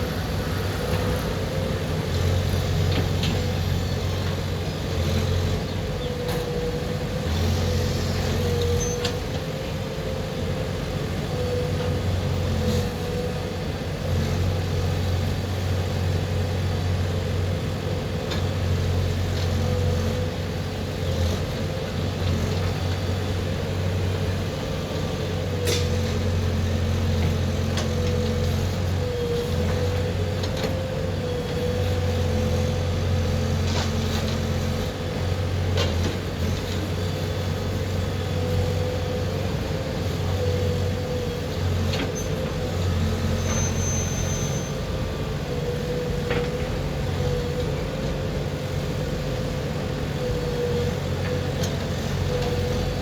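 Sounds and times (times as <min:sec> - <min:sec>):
diesel engine droning under load: 0:00.0 - 0:53.0.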